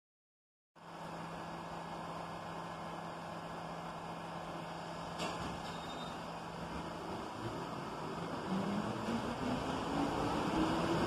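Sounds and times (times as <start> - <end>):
subway train humming: 0.8 - 11.0.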